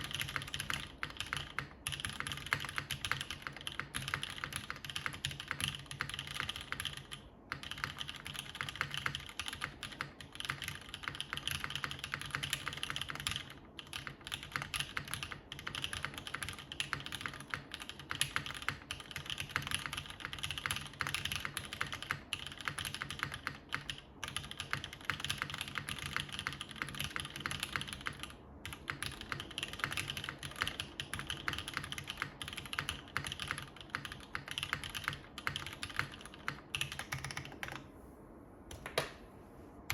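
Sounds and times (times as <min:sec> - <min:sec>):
fast mechanical keyboard typing: 0:00.0 - 0:37.8.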